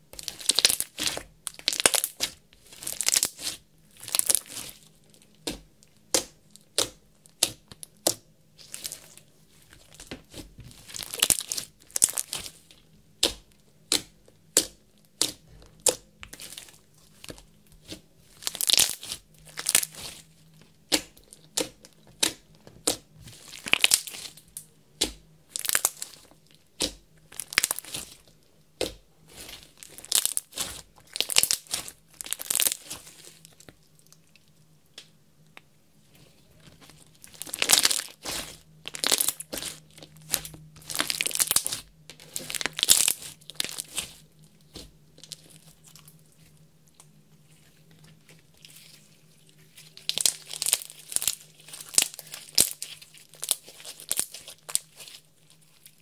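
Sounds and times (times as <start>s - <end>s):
slime clicking and crackling: 0.1s - 34.2s, 36.7s - 46.3s, 47.9s - 56.0s.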